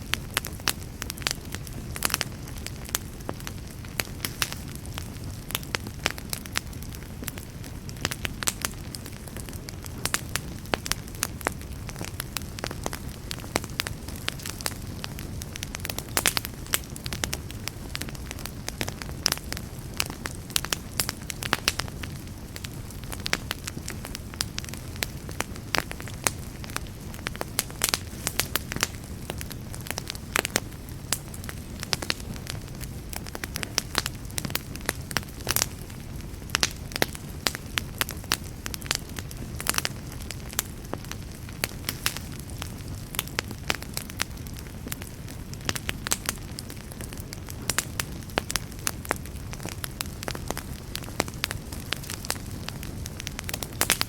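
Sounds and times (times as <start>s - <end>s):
campfire burning: 0.0s - 54.0s
fire crackling and popping: 0.0s - 54.0s.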